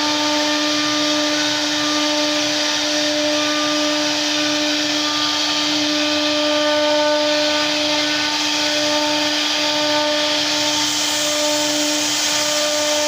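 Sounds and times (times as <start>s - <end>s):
router bit cutting wood: 0.0s - 13.0s
router spindle whining: 0.0s - 13.0s.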